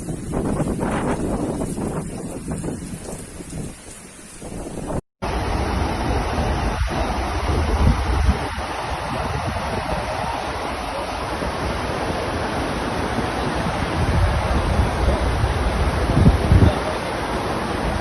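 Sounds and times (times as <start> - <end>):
rushing hurricane wind and water: 0.0 - 18.0
wind buffeting microphone: 0.0 - 18.0.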